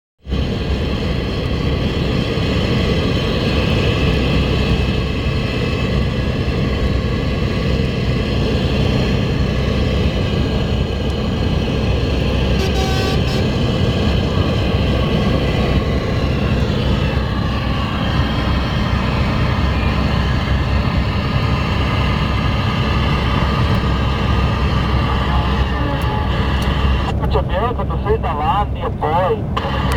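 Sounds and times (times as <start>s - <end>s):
tyre and road noise: 0.2s - 29.9s
truck diesel engine running: 0.3s - 29.9s.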